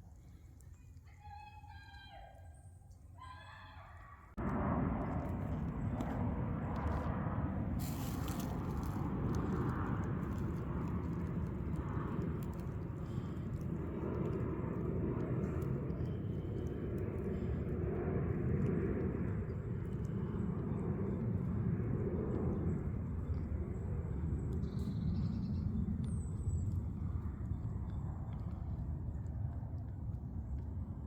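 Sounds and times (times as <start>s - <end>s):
low outdoor rumble: 4.2s - 31.0s.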